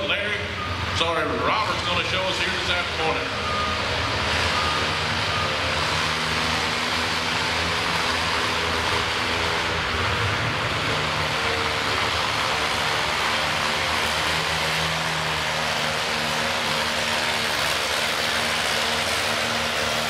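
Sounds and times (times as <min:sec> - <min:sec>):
tractor engine under load: 0:00.0 - 0:20.0.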